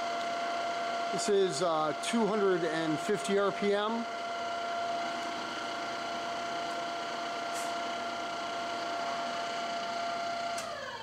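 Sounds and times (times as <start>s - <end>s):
drill motor whine: 0.0s - 11.0s.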